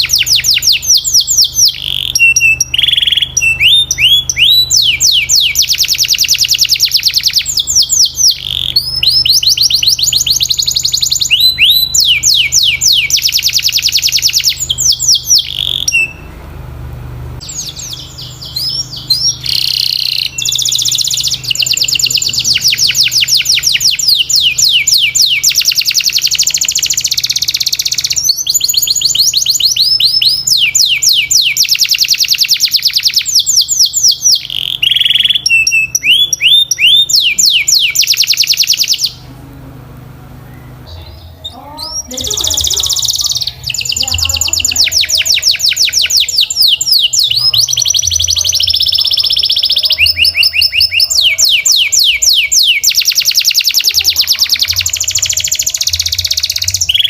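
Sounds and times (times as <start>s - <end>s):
canary singing trills: 0.0s - 16.5s, 17.4s - 57.0s.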